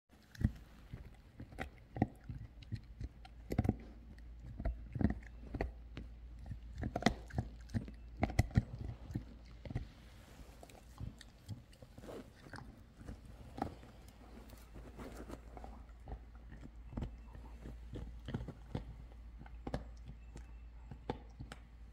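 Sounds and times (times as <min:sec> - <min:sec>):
dog chewing rubber toy: 0:00.2 - 0:21.9.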